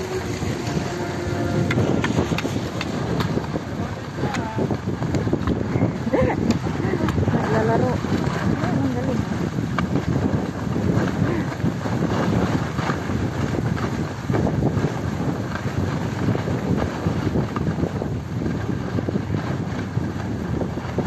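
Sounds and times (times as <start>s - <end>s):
skis scraping on packed snow: 0.0s - 21.0s
wind buffeting microphone: 0.0s - 21.0s.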